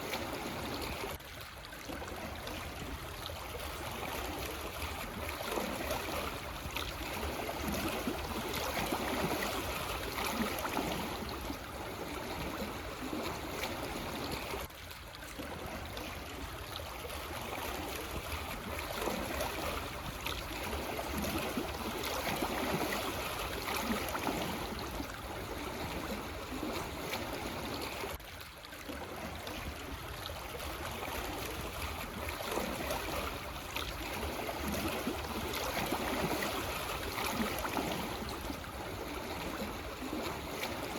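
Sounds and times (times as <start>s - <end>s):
waves lapping over stones: 0.0s - 40.9s.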